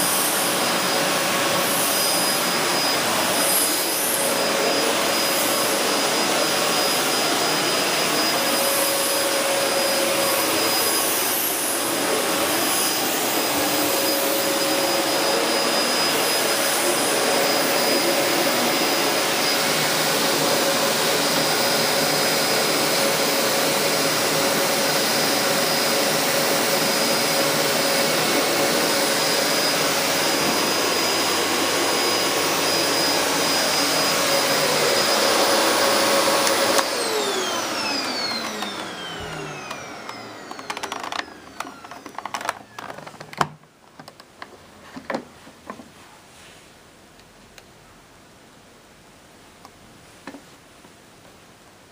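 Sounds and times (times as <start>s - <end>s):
vacuum cleaner running: 0.0s - 43.6s.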